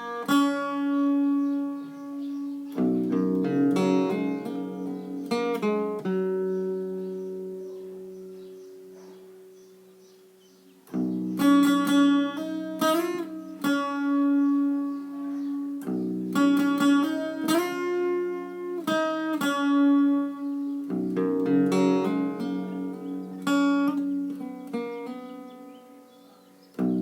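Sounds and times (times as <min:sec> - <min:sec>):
acoustic guitar plucked melody: 0:00.0 - 0:27.0.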